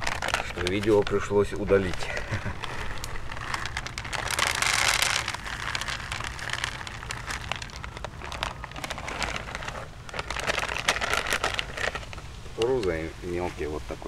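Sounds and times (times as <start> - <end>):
fishing pellets rattling: 0.0 - 12.2
plastic bag crinkling: 0.0 - 13.0.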